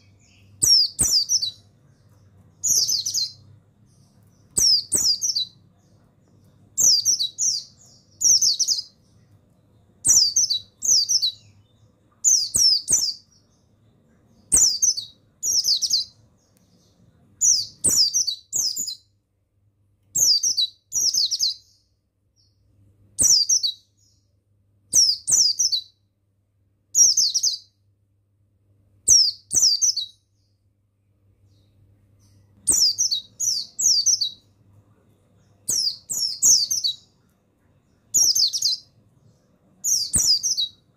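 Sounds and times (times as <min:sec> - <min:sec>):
bird high chirps: 0:00.0 - 0:19.2, 0:20.1 - 0:26.1, 0:26.9 - 0:27.8, 0:29.0 - 0:30.6, 0:31.4 - 0:34.6, 0:35.4 - 0:40.9.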